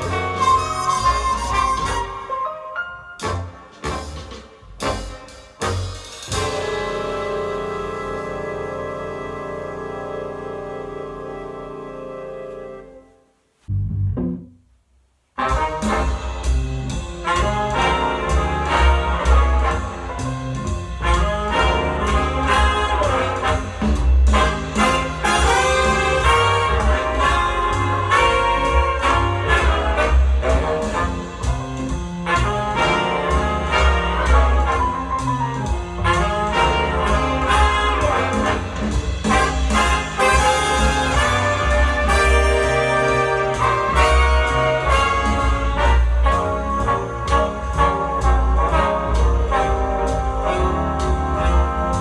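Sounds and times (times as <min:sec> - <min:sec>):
brass jazz music over loudspeakers: 0:00.0 - 0:13.5, 0:15.4 - 0:52.0.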